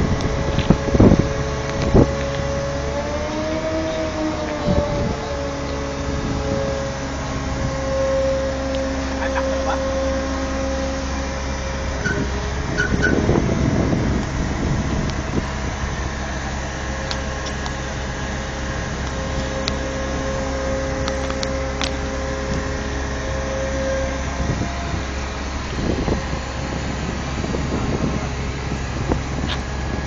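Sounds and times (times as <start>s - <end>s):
crane engine humming: 0.0s - 30.0s.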